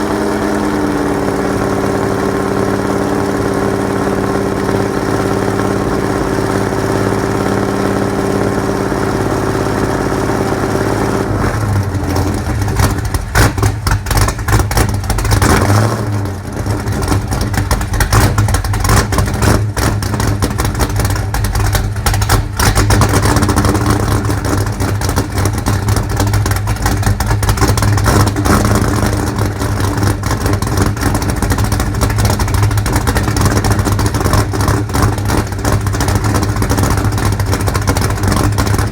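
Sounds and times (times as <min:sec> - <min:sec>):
engine running rough: 0:00.0 - 0:38.9.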